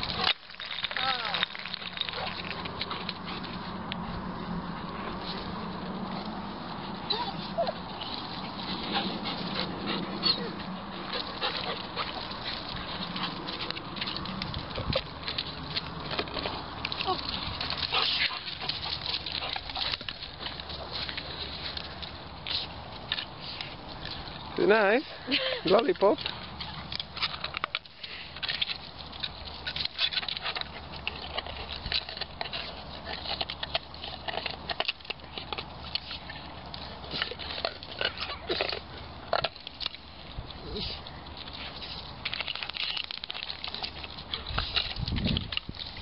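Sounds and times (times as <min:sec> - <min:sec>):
ice crackling under dogs: 0:00.0 - 0:46.0.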